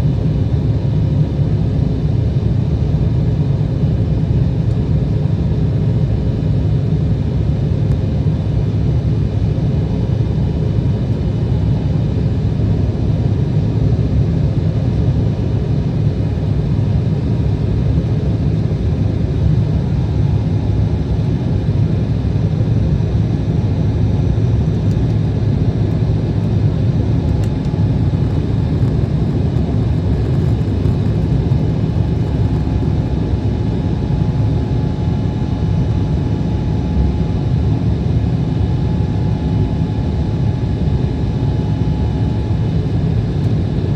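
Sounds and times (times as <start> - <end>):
jet engine roar in cabin: 0.0 - 43.9.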